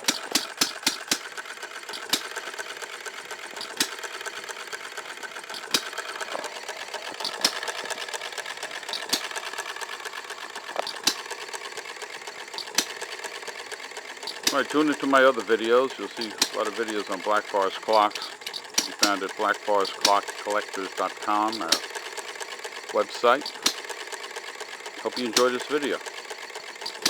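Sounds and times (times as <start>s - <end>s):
engine mechanical clatter: 0.0s - 27.0s.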